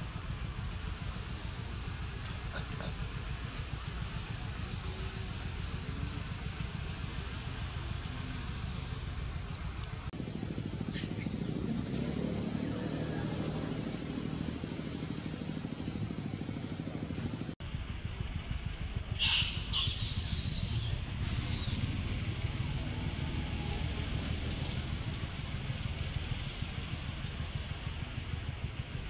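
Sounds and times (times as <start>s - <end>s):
distant traffic rumble: 0.0s - 29.0s.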